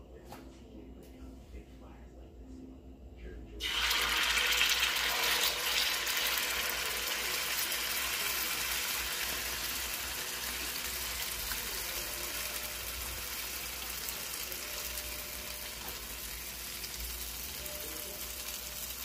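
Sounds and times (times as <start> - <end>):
batter frying in oil: 3.6 - 19.0.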